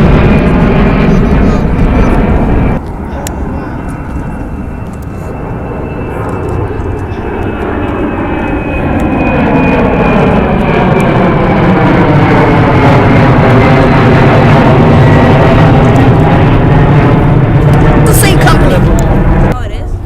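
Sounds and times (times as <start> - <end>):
jet airliner engines rumbling: 0.0 - 20.0.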